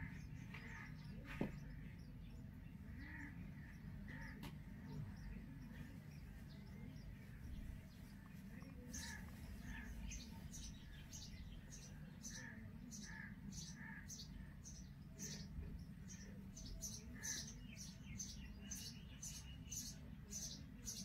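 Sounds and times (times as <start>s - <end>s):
low background rumble: 0.0s - 18.7s
nestlings begging chirps: 0.0s - 21.0s.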